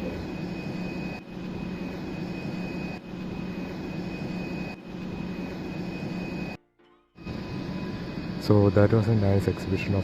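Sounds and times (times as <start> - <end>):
mechanical drone with whine: 0.0 - 10.0.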